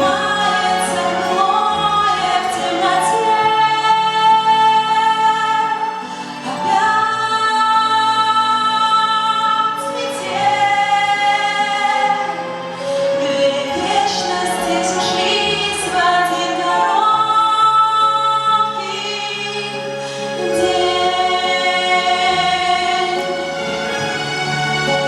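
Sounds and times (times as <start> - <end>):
woman singing slow song: 0.0 - 23.7
musical accompaniment: 0.0 - 25.0.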